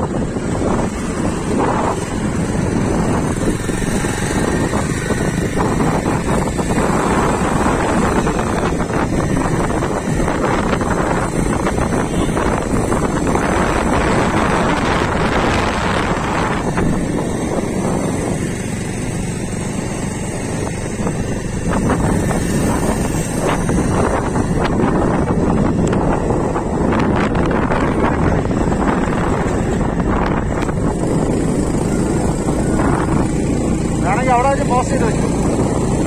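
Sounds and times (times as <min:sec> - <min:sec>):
motorcycle running: 0:00.0 - 0:36.0
road noise: 0:00.0 - 0:36.0
wind buffeting microphone: 0:00.0 - 0:36.0.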